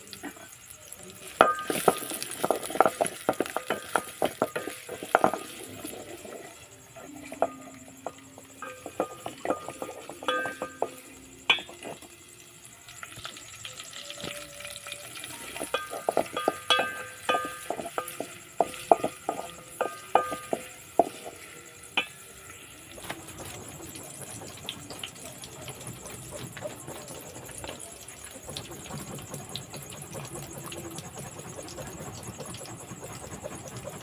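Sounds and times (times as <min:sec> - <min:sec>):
metal spoon stirring in a pot: 0:00.2 - 0:34.0.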